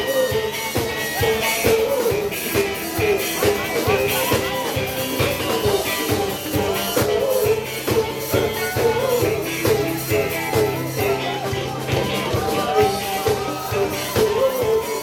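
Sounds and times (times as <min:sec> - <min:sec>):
person singing: 0:00.0 - 0:15.0
upbeat band music: 0:00.0 - 0:15.0.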